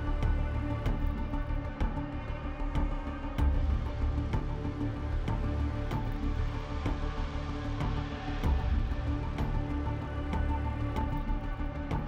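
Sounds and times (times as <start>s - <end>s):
sustained low music tones: 0.0s - 12.0s.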